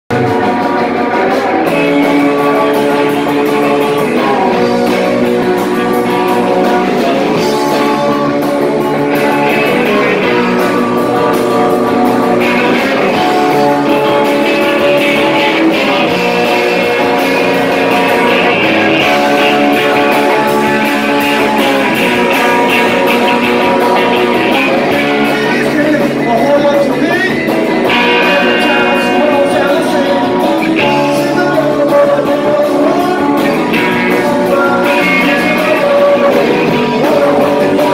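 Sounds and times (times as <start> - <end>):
live rock band playing: 0.1 - 37.9.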